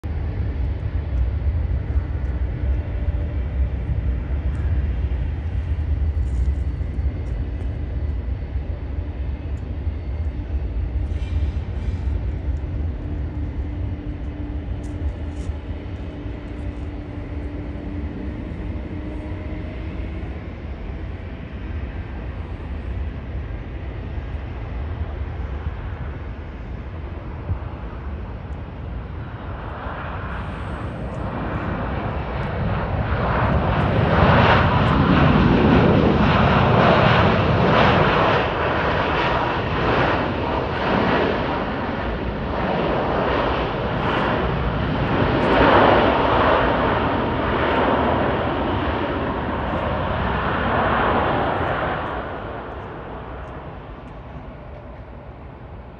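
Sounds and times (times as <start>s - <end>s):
airport rumble: 0.0s - 55.9s
distant jet noise: 0.0s - 55.9s
jet engine rush: 0.0s - 55.9s.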